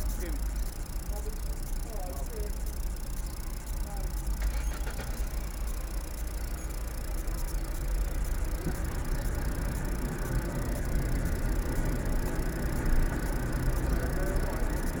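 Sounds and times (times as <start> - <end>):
steady low traffic rumble: 0.0 - 15.0.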